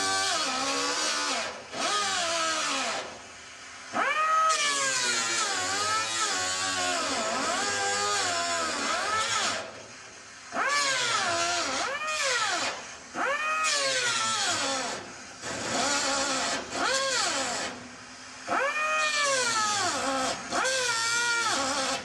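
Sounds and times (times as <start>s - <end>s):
grinder cutting sheet metal: 0.0s - 3.2s, 3.9s - 9.8s, 10.5s - 22.0s.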